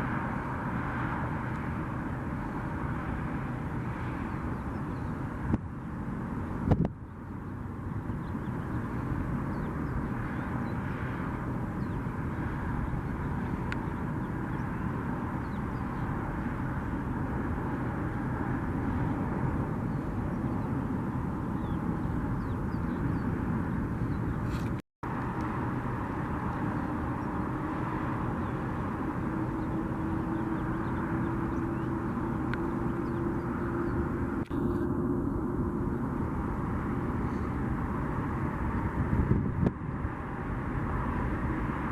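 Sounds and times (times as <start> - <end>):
faint whine rising in pitch: 0.0 - 41.9
jet engines running: 0.0 - 41.9.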